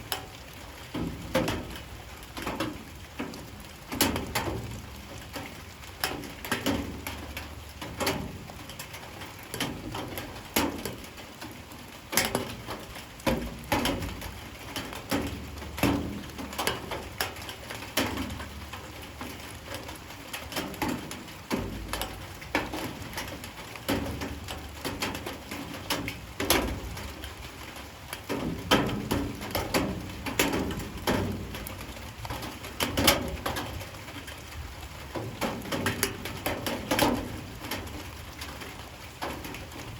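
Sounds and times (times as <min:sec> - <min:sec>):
rain drops on hard surface: 0:00.0 - 0:39.9
soft rain hiss: 0:00.0 - 0:39.9.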